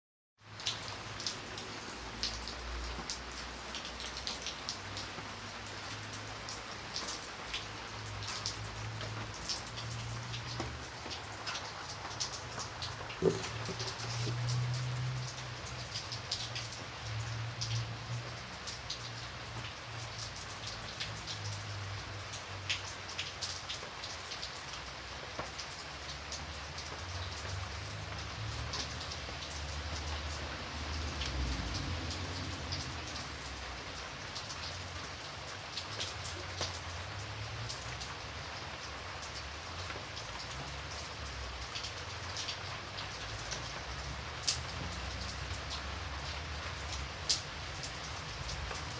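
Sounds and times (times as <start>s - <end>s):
steady rain falling: 0.4s - 48.9s
raindrops ticking: 0.5s - 48.9s.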